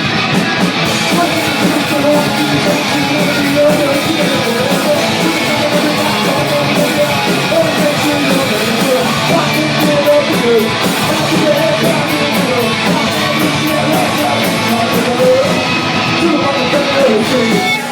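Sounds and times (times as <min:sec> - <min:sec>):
live rock band playing: 0:00.0 - 0:17.9.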